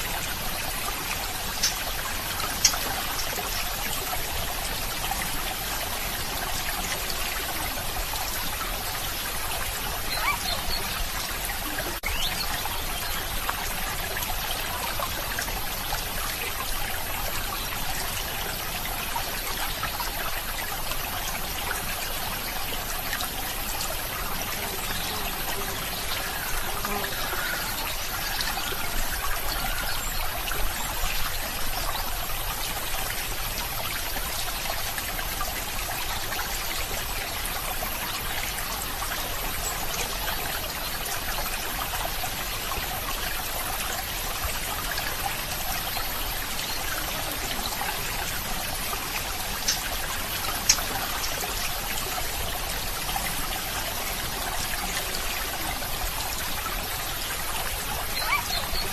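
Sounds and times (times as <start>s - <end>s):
water trickling: 0.0s - 58.9s.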